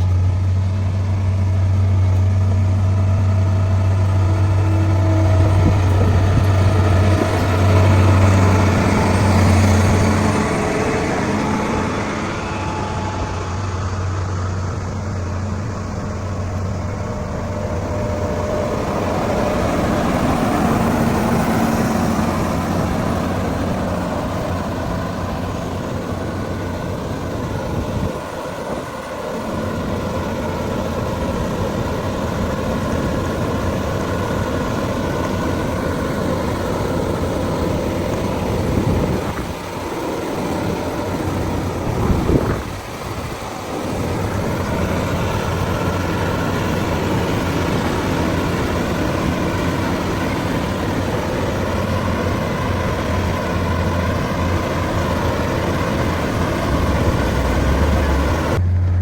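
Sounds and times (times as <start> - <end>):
machinery engine running: 0.0 - 59.0.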